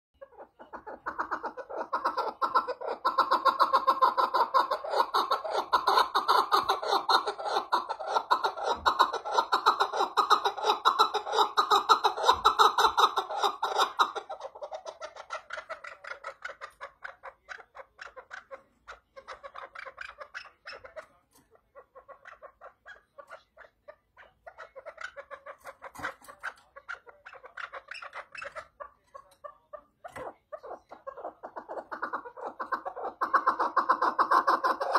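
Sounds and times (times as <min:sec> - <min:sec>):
partridge clucking: 0:00.2 - 0:34.9.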